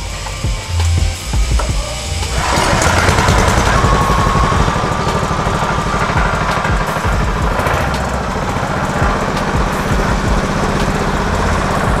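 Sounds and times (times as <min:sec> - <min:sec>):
small petrol engine running: 0:00.0 - 0:12.0.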